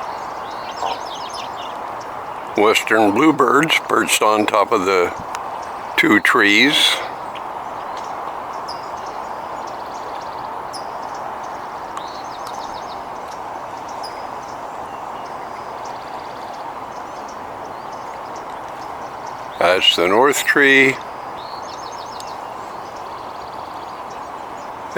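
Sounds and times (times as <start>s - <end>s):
rapid chattering bird calls: 0.0s - 24.9s
songbirds chirping: 0.0s - 24.9s.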